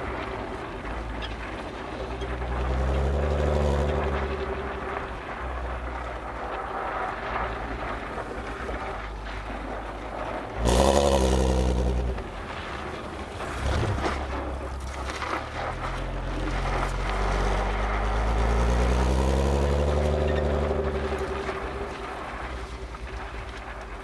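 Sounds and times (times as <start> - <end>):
car exhaust while driving: 0.0 - 24.0.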